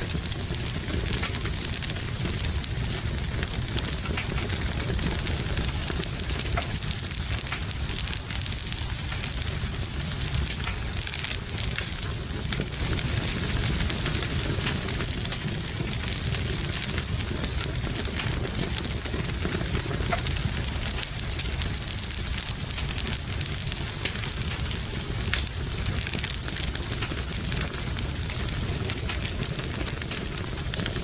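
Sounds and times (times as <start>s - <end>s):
rain hissing: 0.0s - 31.0s
wood fire crackling: 0.0s - 31.0s.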